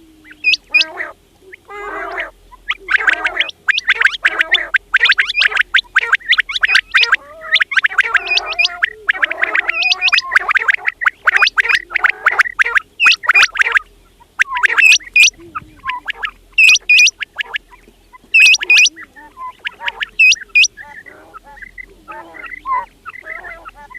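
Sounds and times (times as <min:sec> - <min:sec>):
quails calling: 0:00.0 - 0:23.9.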